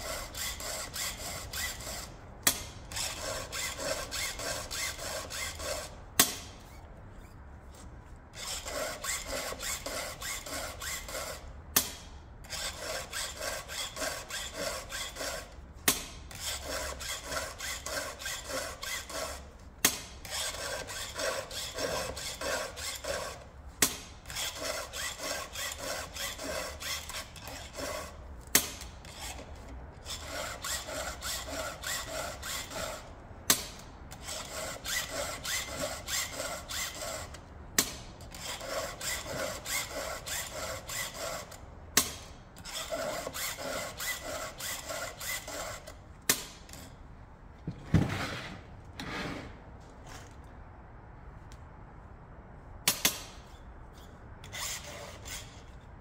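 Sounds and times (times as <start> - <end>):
hand file rasping on chain: 0.0 - 45.9, 54.0 - 55.8.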